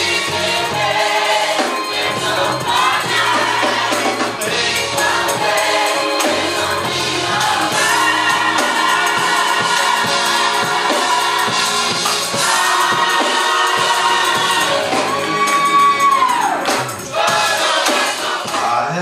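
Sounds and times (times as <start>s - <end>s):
choir singing with band: 0.0s - 19.0s
drums and tambourine beat: 0.0s - 19.0s.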